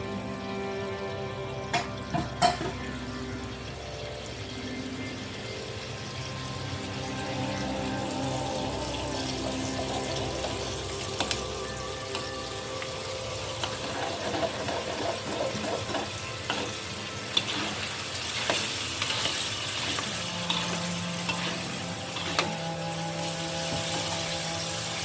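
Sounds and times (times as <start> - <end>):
food sizzling in a pan: 2.4 - 25.0.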